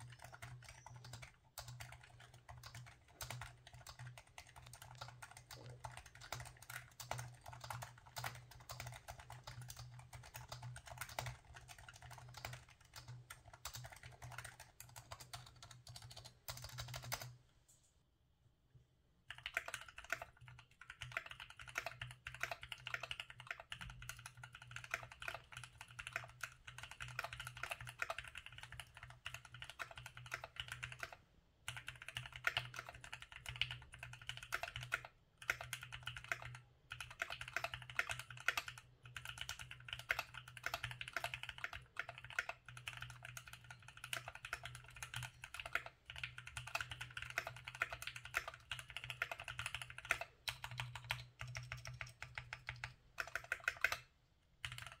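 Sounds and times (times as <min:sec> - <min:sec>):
fast typing on mechanical keyboard: 0:00.0 - 0:17.4, 0:19.3 - 0:55.0.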